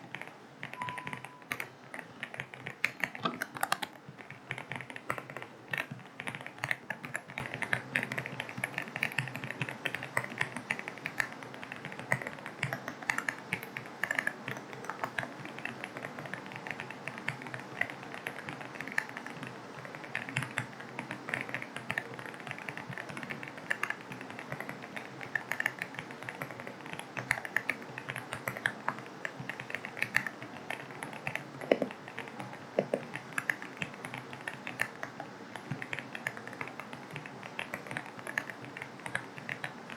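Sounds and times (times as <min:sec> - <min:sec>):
fast typing on mechanical keyboard: 0:00.1 - 0:39.9.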